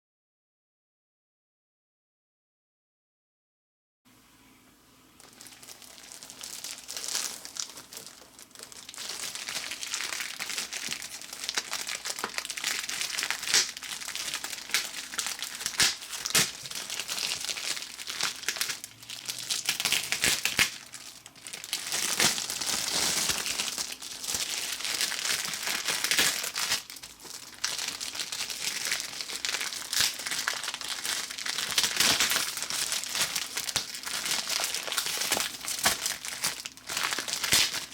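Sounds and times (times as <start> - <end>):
packaging crinkling: 5.2 - 37.9.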